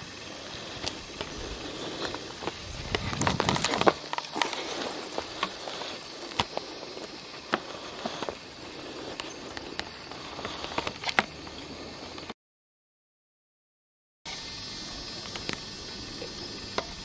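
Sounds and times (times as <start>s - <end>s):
steady outdoor hiss: 0.0s - 12.4s, 14.3s - 17.0s.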